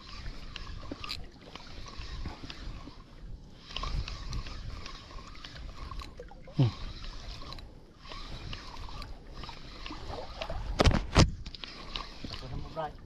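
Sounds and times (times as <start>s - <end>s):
spinning reel cranking: 0.0s - 10.9s, 11.5s - 13.0s
water lapping against boat: 0.0s - 13.0s.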